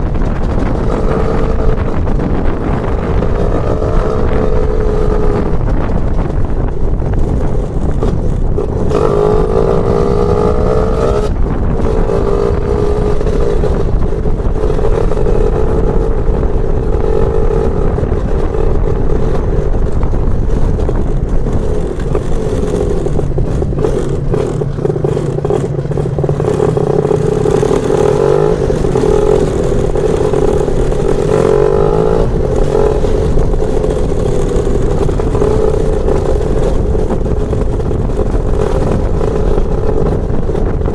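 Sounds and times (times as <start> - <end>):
scooter two-stroke engine revving: 0.0 - 40.9.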